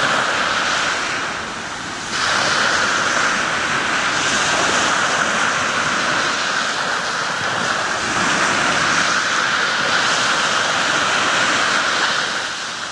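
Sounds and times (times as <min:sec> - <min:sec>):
small waves breaking on beach: 0:00.0 - 0:12.9.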